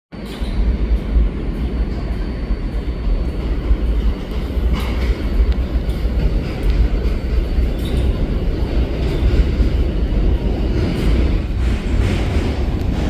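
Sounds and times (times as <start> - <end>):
subway train rumbling on track: 0.1 - 13.0
train wheels clicking: 0.2 - 13.0.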